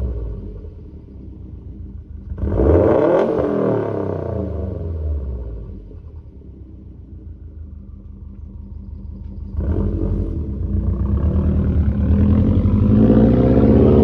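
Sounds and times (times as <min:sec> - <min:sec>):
car engine revving: 0:00.0 - 0:06.8, 0:09.3 - 0:14.0.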